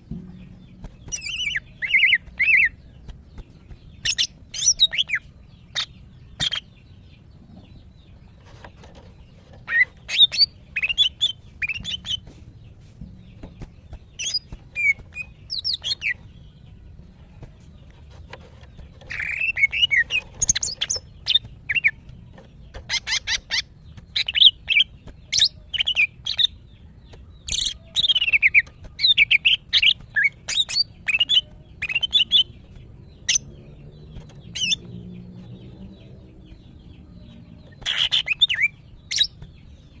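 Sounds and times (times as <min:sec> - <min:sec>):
bird chirping: 0:00.0 - 0:40.0.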